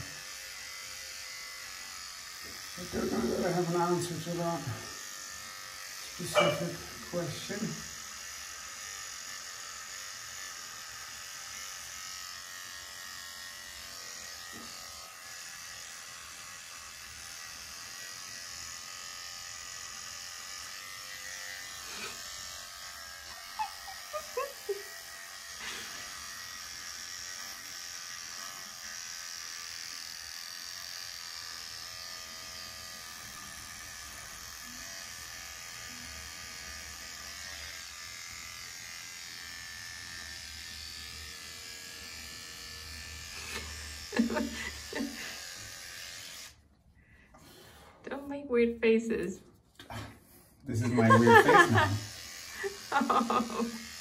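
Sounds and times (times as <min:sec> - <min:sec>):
beard trimmer buzzing: 0:00.0 - 0:46.8, 0:50.6 - 0:54.0.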